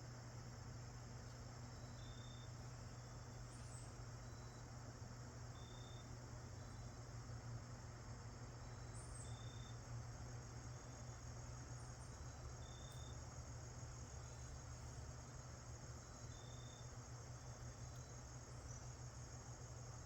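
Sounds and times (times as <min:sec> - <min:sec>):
crickets chirring: 0:00.0 - 0:20.0
faint low hum: 0:00.0 - 0:20.0.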